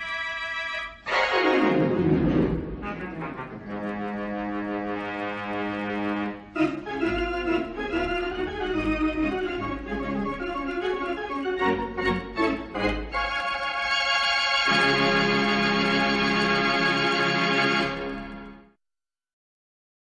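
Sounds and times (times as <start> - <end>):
organ music: 0.0 - 18.8.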